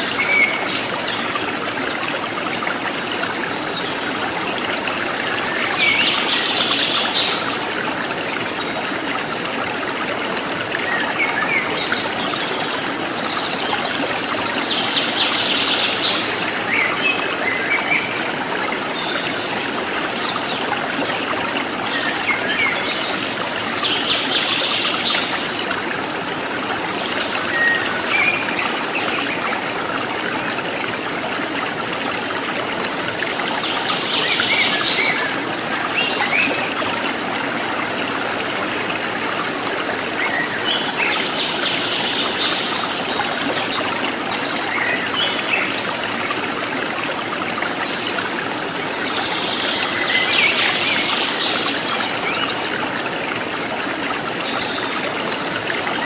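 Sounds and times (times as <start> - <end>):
stream trickling over rocks: 0.0 - 56.0.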